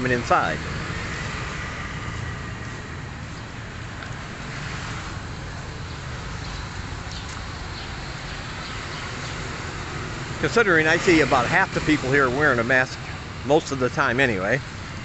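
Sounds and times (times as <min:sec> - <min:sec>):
motorbike and car traffic: 0:00.0 - 0:15.0.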